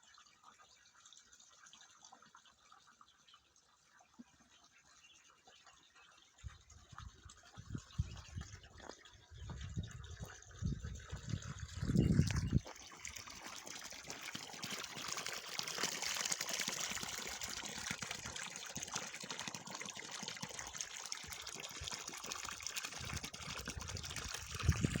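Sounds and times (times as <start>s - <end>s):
running water trickling: 0.0s - 25.0s.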